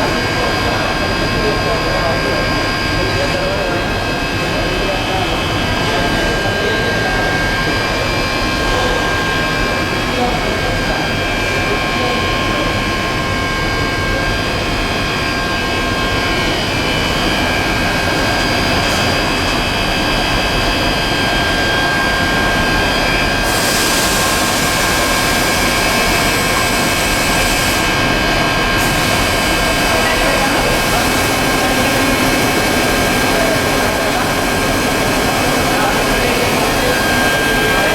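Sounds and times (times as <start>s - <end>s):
machinery running with whining tones: 0.0s - 37.9s.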